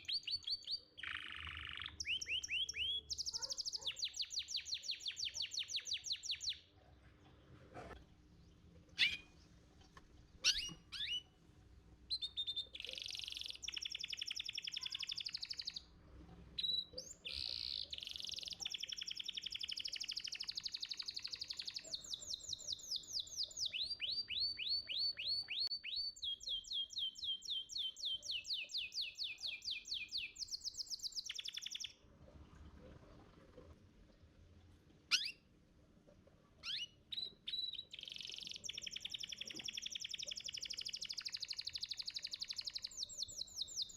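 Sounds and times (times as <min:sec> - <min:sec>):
canary singing trills: 0:00.0 - 0:06.7, 0:08.9 - 0:09.6, 0:10.4 - 0:11.4, 0:12.1 - 0:15.9, 0:16.6 - 0:32.0, 0:35.1 - 0:35.5, 0:36.6 - 0:43.9.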